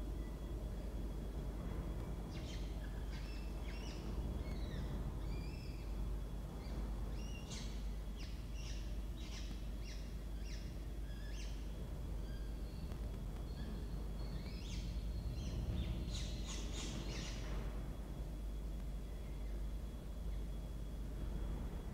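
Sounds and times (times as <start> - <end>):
low background rumble: 0.0 - 21.9.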